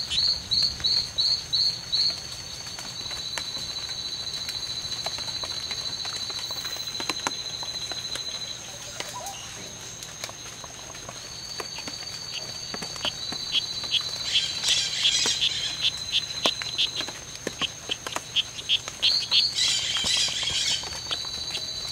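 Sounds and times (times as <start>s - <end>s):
high-pitched frog and insect trill: 0.0s - 21.9s.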